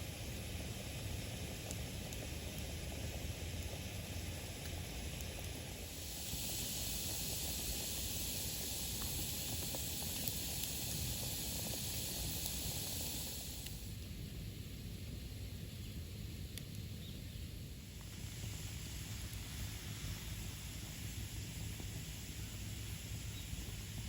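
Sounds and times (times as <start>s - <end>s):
campfire hissing: 0.0s - 24.0s
faint fire crackles: 0.0s - 24.0s.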